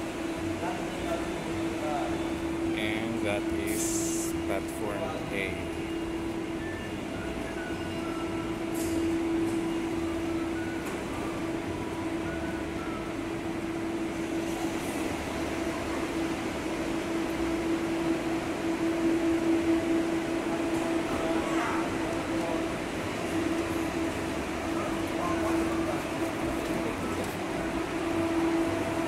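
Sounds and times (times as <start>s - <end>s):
electric machinery hum: 0.0s - 29.0s.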